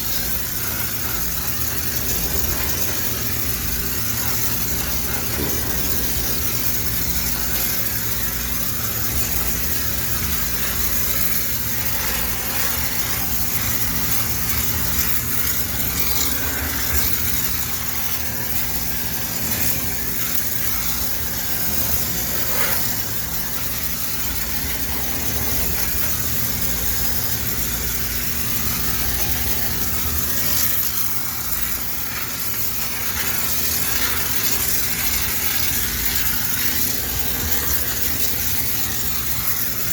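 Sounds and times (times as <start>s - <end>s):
steam cleaner motor hum: 0.0s - 39.9s
steam hissing: 0.0s - 39.9s.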